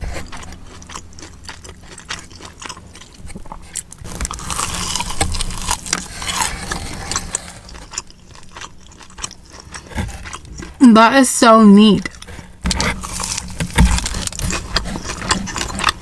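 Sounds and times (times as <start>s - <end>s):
loud crunching: 0.0s - 10.8s, 12.0s - 16.0s
wet chewing clicks: 0.1s - 10.8s, 12.0s - 16.0s.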